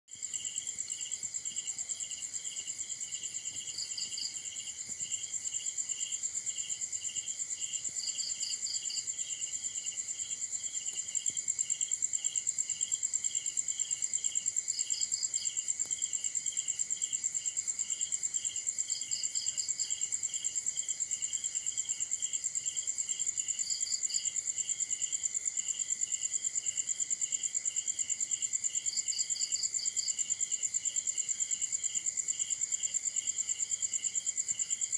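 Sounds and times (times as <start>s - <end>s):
low pulsing insect chirp: 0.1s - 34.9s.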